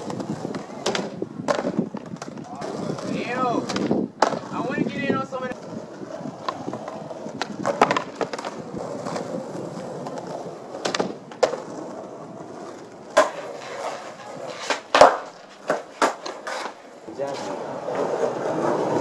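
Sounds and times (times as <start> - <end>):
skateboard clacks: 0.0 - 19.0
skateboard wheels rolling on concrete: 0.0 - 19.0.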